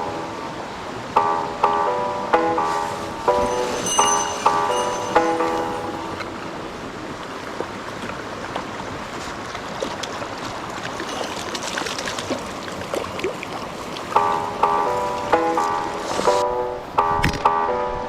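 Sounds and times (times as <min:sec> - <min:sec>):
mountain stream flowing: 0:00.0 - 0:17.1.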